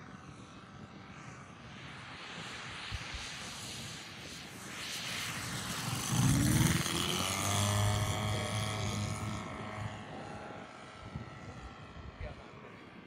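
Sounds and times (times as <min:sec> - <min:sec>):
model airplane engine passing: 0:00.0 - 0:13.0.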